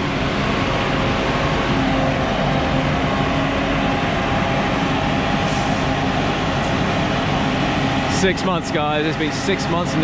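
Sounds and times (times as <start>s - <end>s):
boat hoist engine drone: 0.0s - 10.0s
steady humming tones: 0.0s - 10.0s.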